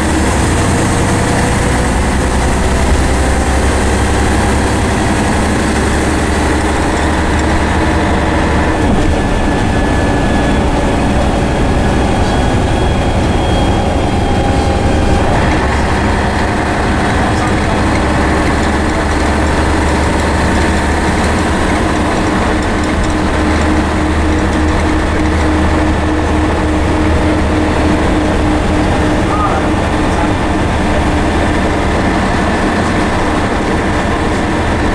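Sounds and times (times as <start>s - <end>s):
bus engine droning: 0.0s - 34.9s
road and body rumble: 0.0s - 34.9s.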